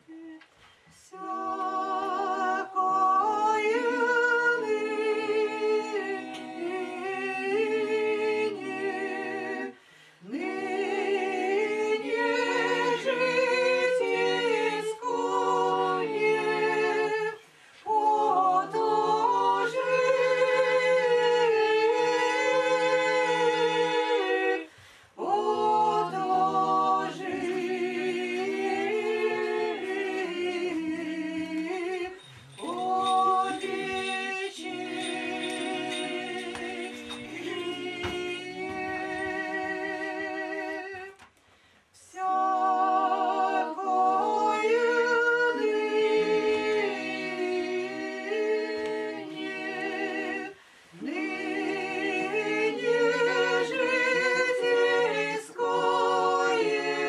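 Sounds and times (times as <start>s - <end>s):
choir singing chant a cappella: 0.0s - 41.3s, 42.0s - 57.0s.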